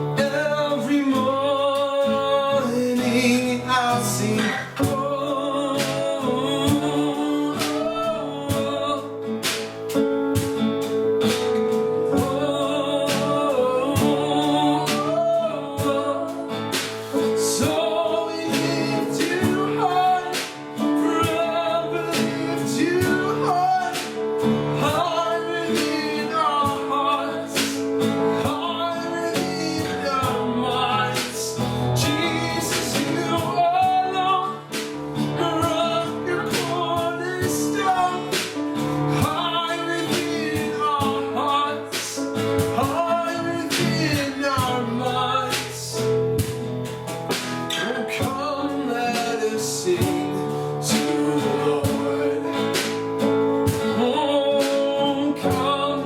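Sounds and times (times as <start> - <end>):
strummed acoustic guitar: 0.0 - 56.0
voices singing worship song: 0.0 - 56.0.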